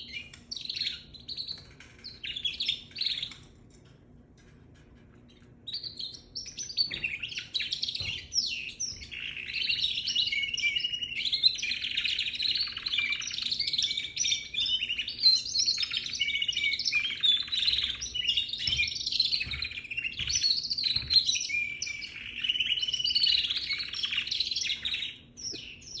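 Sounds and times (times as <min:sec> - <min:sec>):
canary singing: 0:00.0 - 0:03.5, 0:05.2 - 0:26.0.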